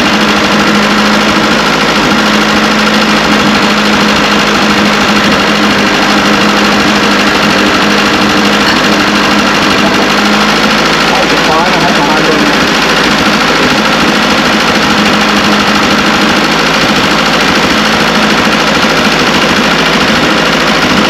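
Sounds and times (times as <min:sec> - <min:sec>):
petrol engine running: 0:00.0 - 0:21.0.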